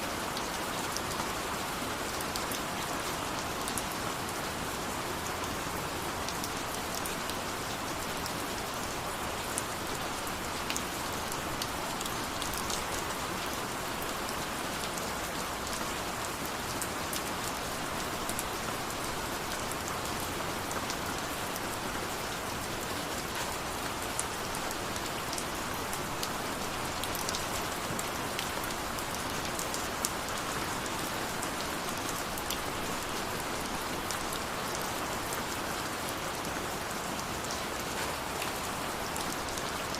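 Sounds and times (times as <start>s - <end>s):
steady rain hiss: 0.0s - 39.9s
raindrops ticking on surface: 0.2s - 39.9s.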